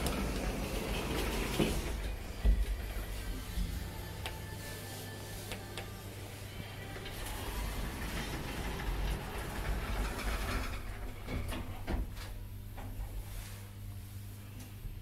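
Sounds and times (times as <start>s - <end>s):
lift doors sliding shut: 0.0s - 13.3s
low lift hum: 0.0s - 15.0s.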